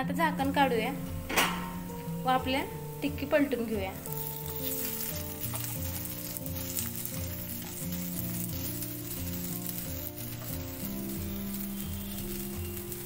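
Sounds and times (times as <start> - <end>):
soft background music: 0.0 - 13.0
oil sizzling in a pan: 0.2 - 13.0.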